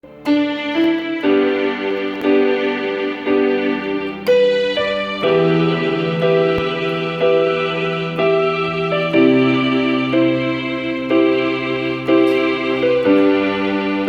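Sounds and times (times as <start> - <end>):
electronic keyboard chords: 0.0 - 14.0.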